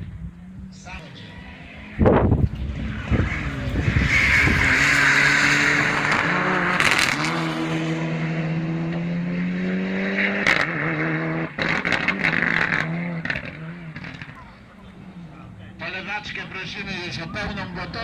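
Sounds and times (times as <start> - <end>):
race car engine running: 0.0 - 18.0.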